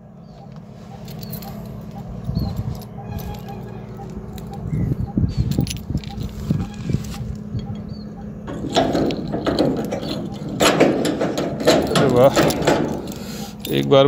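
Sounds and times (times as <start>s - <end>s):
keys jangling and clinking: 1.0s - 14.0s.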